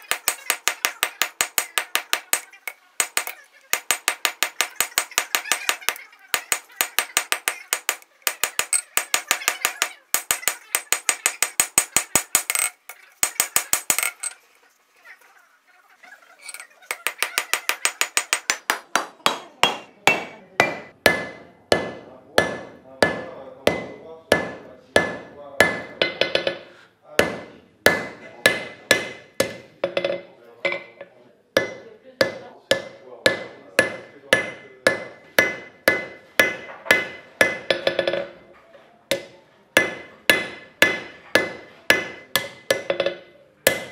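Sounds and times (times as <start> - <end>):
hammer striking metal on anvil: 0.0 - 14.3, 16.5 - 31.0, 31.6 - 38.4, 39.1 - 43.9.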